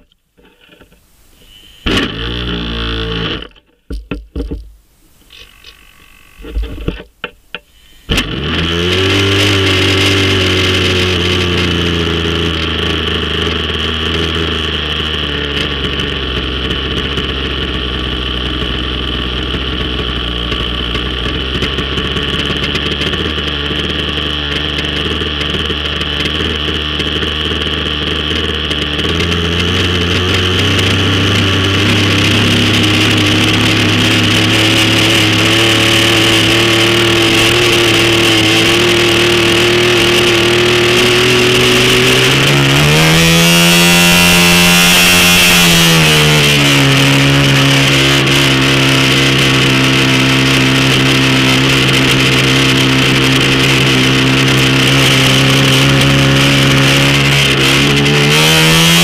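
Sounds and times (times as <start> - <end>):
small model engine idling: 0.0 - 3.7, 5.2 - 59.0
electric starter: 0.0 - 59.0.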